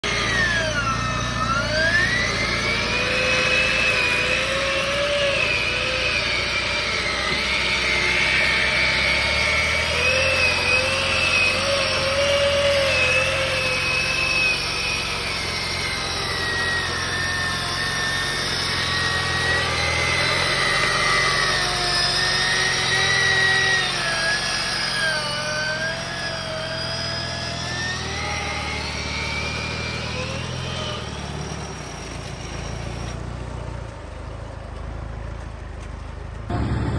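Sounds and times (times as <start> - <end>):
electric winch motor whine: 0.0 - 34.2, 36.5 - 36.9
engine running low: 0.0 - 36.9.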